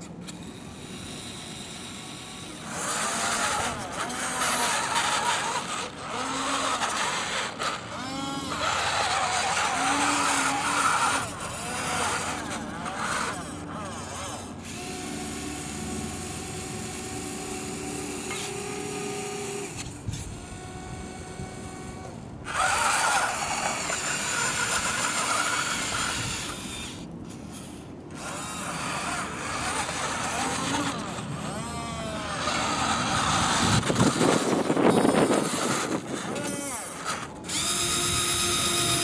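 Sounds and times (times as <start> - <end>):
toy electric motors whining: 0.0 - 39.0.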